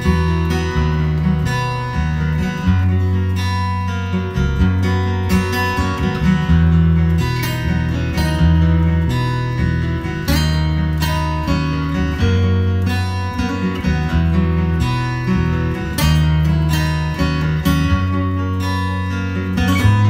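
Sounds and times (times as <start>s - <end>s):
acoustic guitar strumming: 0.0s - 20.0s
bass line: 0.0s - 20.0s.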